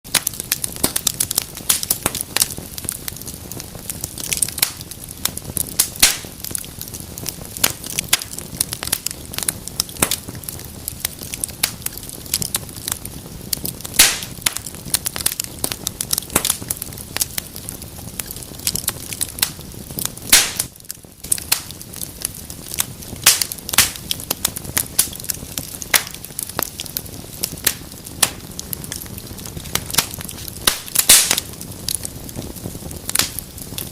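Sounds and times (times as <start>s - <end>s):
fire crackling and popping: 0.0s - 33.9s
low rush of flames: 0.1s - 33.9s.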